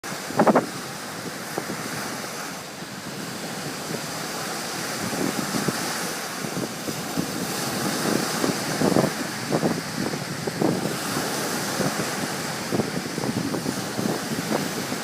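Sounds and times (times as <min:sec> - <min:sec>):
waves breaking and splashing: 0:00.0 - 0:15.0
wind buffeting microphone: 0:00.1 - 0:15.0.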